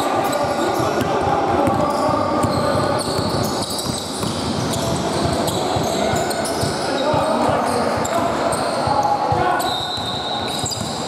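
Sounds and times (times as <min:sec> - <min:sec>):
basketball bouncing: 0:00.2 - 0:08.1, 0:10.0 - 0:11.0.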